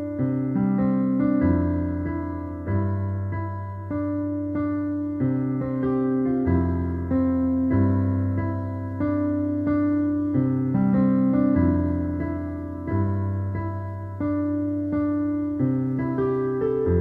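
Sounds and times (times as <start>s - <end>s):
keyboard playing chords: 0.0s - 17.0s.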